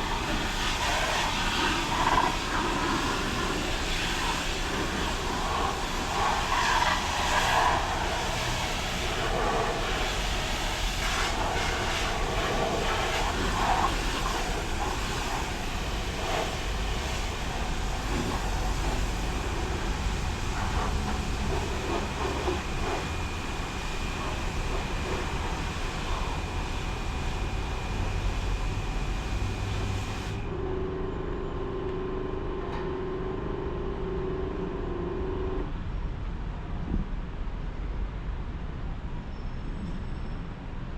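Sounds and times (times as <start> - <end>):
faint steady whine: 0.0 - 35.9
car wash machinery rumble: 0.0 - 39.2.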